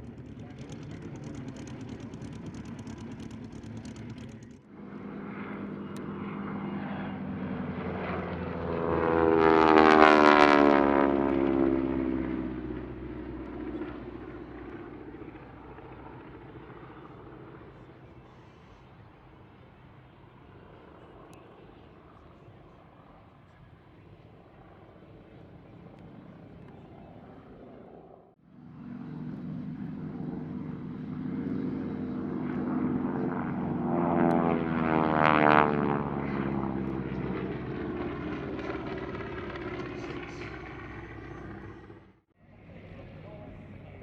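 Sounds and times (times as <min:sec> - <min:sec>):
aircraft engine flying past: 0:00.0 - 0:44.0.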